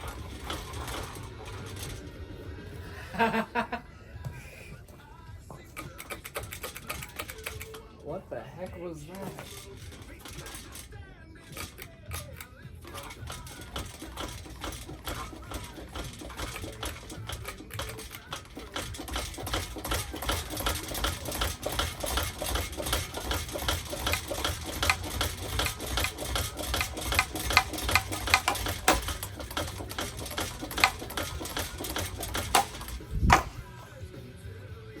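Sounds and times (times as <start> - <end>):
ceiling fan clattering: 0.0 - 34.0.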